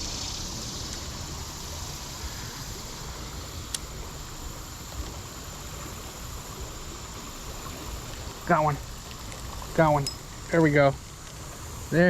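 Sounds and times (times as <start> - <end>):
creek water: 0.0 - 12.0.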